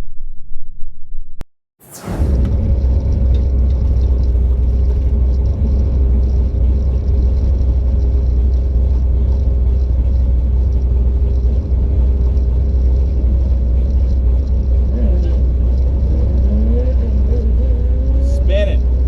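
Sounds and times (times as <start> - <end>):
car engine idling: 1.9 - 19.0.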